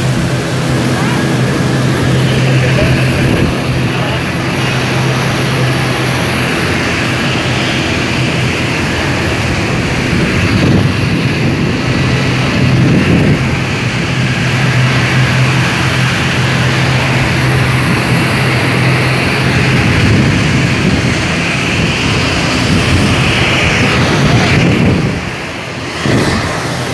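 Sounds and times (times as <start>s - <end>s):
jet engines rushing: 0.0s - 26.9s.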